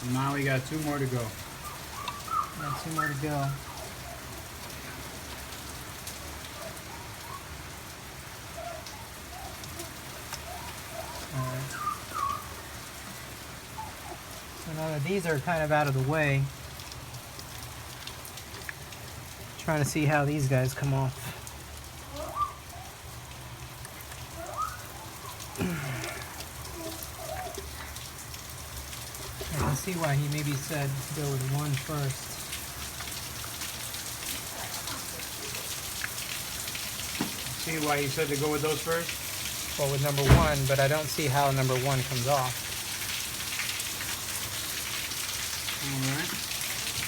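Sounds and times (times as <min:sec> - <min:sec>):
raindrops ticking: 0:00.0 - 0:47.0
steady rain: 0:00.0 - 0:47.0.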